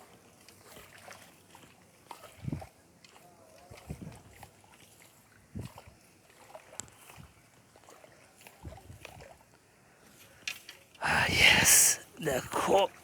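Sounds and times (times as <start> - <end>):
river water sloshing: 0.0 - 10.4.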